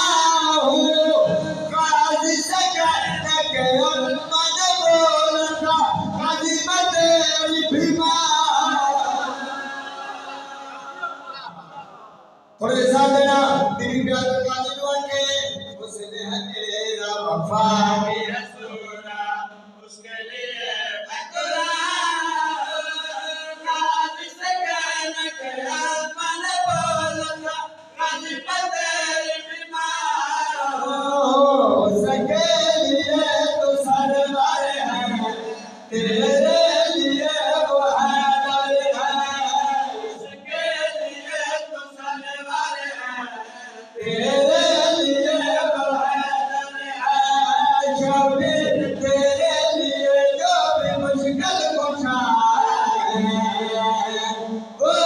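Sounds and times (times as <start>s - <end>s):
man chanting into a microphone: 0.0s - 55.0s.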